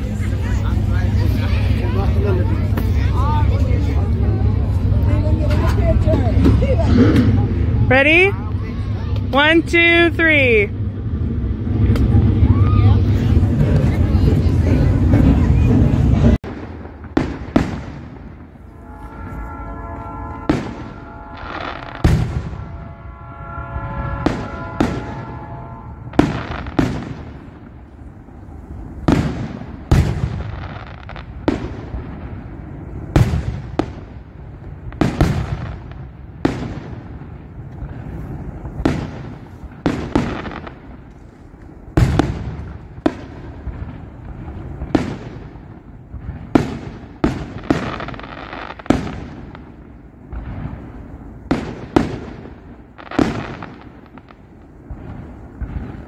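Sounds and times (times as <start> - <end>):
fireworks booming with echo: 0.0 - 56.0.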